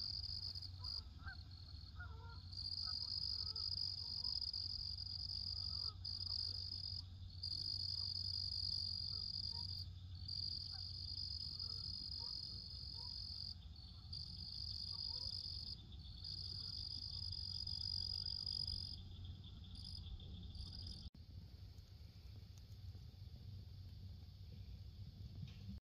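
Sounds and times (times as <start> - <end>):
faint insect chorus: 0.0 - 21.1.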